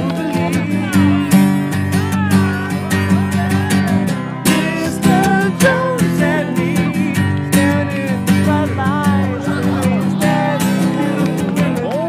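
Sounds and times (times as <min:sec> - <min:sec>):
person singing: 0:00.0 - 0:12.0
song with acoustic guitar: 0:00.0 - 0:12.0.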